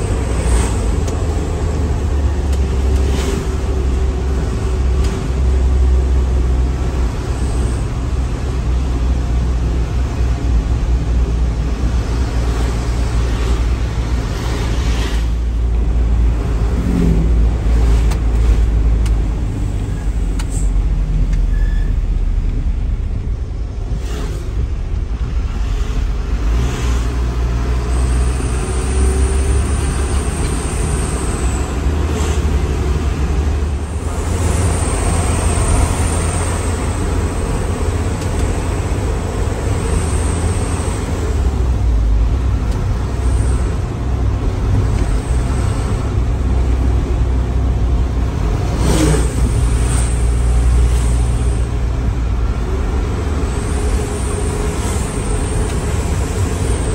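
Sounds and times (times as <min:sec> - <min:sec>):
road noise: 0:00.0 - 0:56.9
truck engine rumbling: 0:00.0 - 0:56.9.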